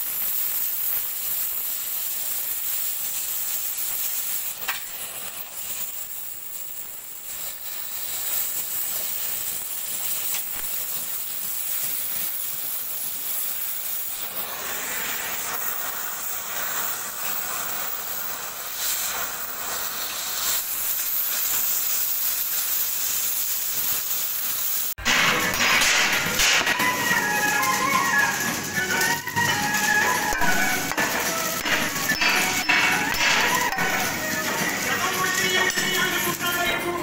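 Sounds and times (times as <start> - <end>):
cutting torch hissing: 0.0 - 37.0.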